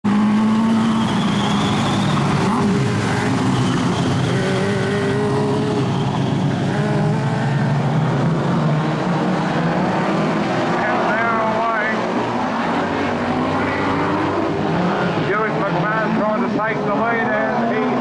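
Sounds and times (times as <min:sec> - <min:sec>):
racing car engines accelerating: 0:00.0 - 0:18.0.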